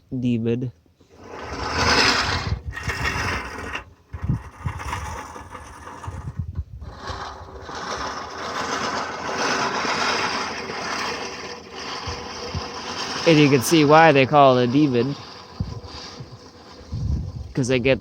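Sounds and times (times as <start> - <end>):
reel mower whirring: 1.0 - 18.0.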